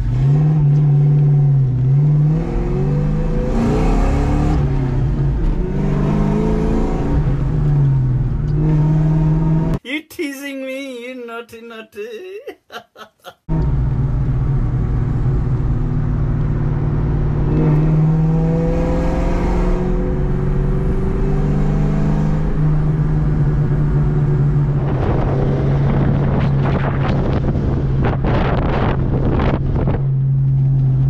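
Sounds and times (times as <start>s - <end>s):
car engine accelerating: 0.0s - 9.8s, 13.5s - 31.0s.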